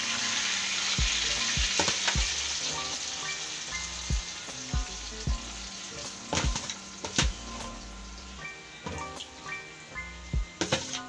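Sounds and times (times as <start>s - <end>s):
oil sizzling in a wok: 0.0s - 11.0s.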